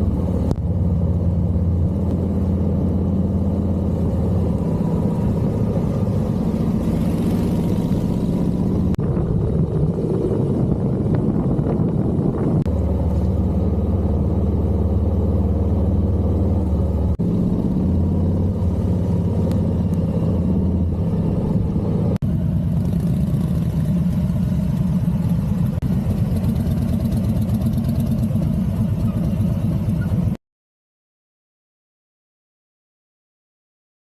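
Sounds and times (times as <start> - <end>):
motorcycle engine running: 0.0 - 30.4.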